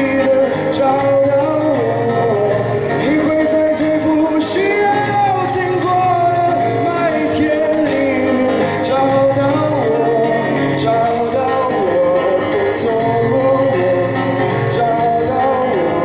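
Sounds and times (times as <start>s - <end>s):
acoustic guitar: 0.0s - 16.0s
man singing: 0.0s - 16.0s.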